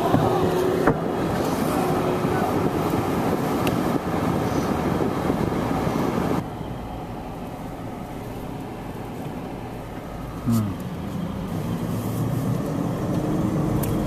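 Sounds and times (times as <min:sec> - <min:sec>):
car interior driving hum: 0:00.0 - 0:14.0
vehicle running noise: 0:00.0 - 0:14.0.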